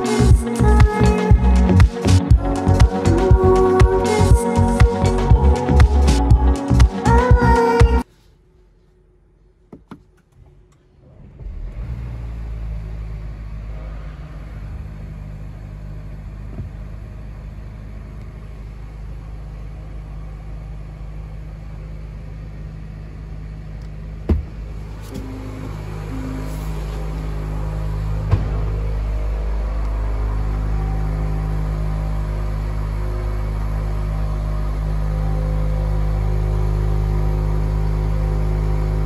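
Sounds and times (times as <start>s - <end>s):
car engine starting and idling: 0.0s - 8.3s, 9.3s - 39.0s.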